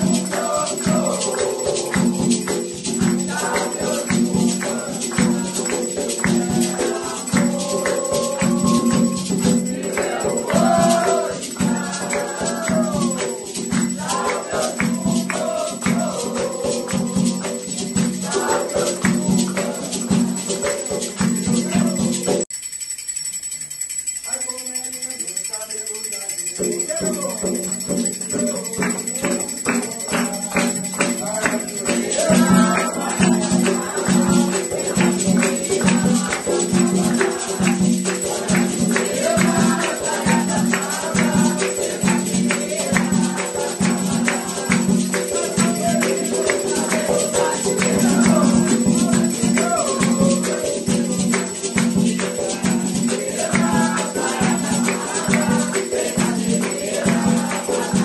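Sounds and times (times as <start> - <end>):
group singing a devotional chant: 0.0 - 22.4, 28.3 - 58.0
hand clapping: 0.0 - 22.5, 27.2 - 58.0
steady drum beat: 0.0 - 22.5, 26.6 - 58.0
jingling percussion: 0.0 - 58.0.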